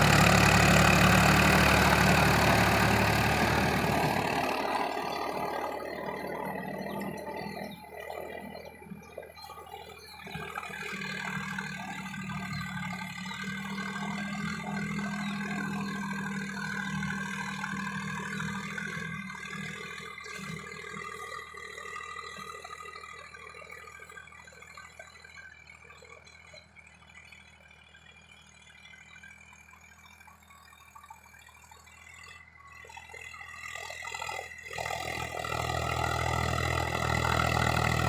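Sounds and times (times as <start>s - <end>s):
tractor diesel engine humming: 0.0s - 38.0s.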